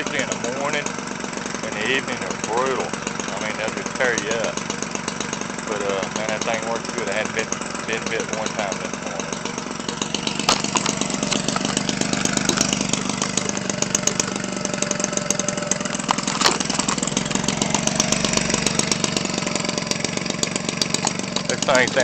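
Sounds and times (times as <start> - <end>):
two-stroke engine running steadily: 0.0 - 22.0.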